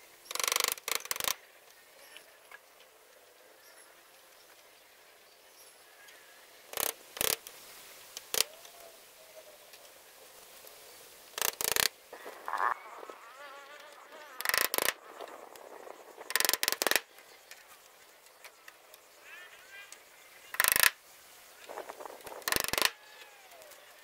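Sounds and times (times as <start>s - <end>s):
faint insect sounds: 0.0s - 24.0s.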